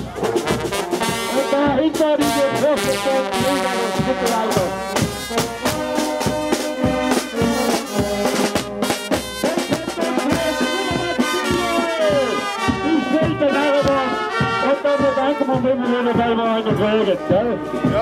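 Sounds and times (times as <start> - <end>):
baritone horn: 0.0 - 18.0
saxophones: 0.0 - 18.0
steady drum beat: 0.0 - 18.0
trombones: 0.0 - 18.0
trumpet: 0.0 - 18.0.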